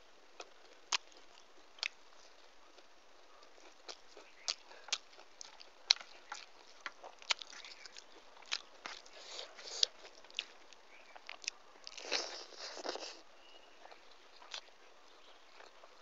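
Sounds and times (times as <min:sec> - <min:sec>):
wet chewing and crunching: 0:00.3 - 0:16.0.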